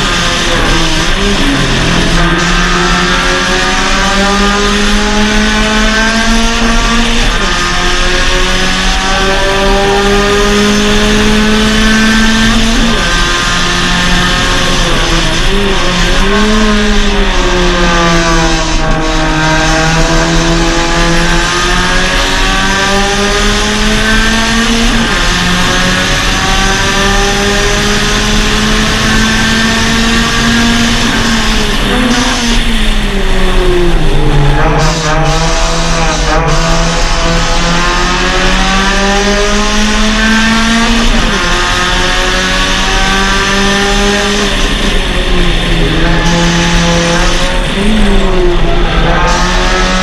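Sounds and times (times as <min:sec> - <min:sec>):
race car engine: 0:00.0 - 0:50.0
rush of noise: 0:00.0 - 0:50.0.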